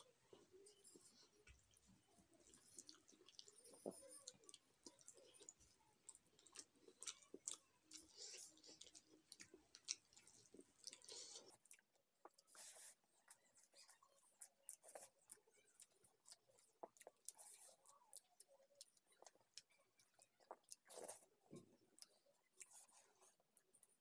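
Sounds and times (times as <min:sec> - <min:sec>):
chewing food: 0:00.0 - 0:24.0.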